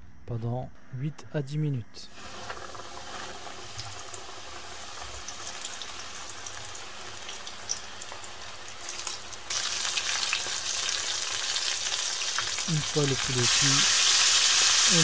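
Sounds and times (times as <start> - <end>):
chicken sizzling in hot oil: 2.1 - 15.0.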